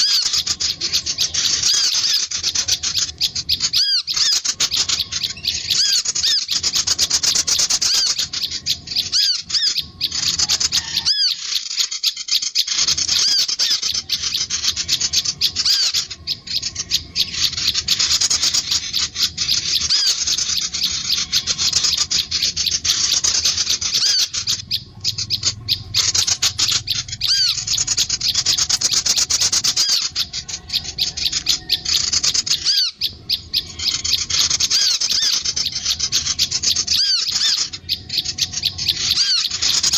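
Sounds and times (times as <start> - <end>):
songbirds twittering and trilling: 0.0 - 39.9.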